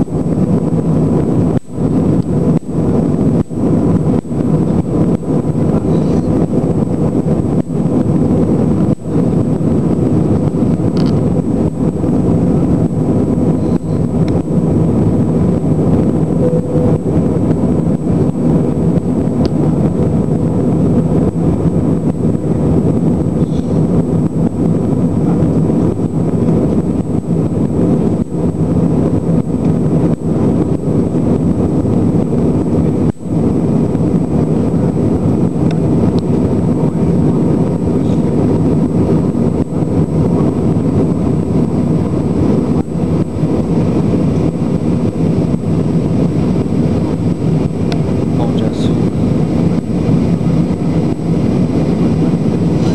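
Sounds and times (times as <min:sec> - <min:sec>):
jet engine and airflow in cabin: 0:00.0 - 0:52.9.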